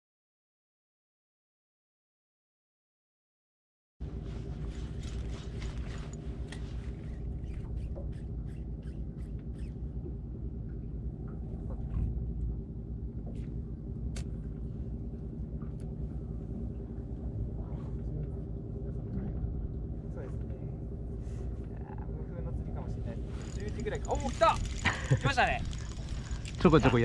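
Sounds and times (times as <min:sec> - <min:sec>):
boat engine idling: 0:04.0 - 0:27.0.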